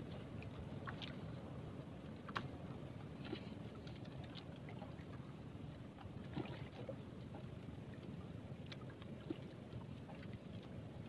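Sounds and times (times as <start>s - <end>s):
sea waves: 0.0s - 11.0s
wind: 0.0s - 11.0s.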